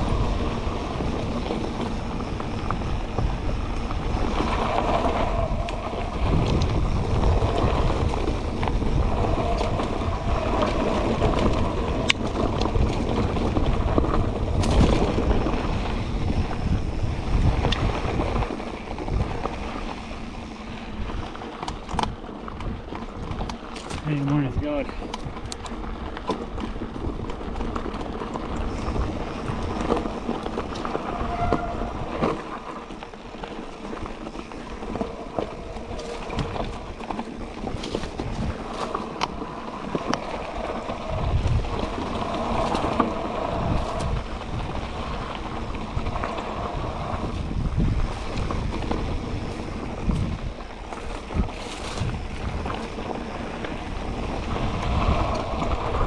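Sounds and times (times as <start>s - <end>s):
bike knocks and rattles: 0.0s - 56.0s
bike tyre noise on dirt: 0.0s - 56.0s
wind rumbling on microphone: 0.0s - 56.0s.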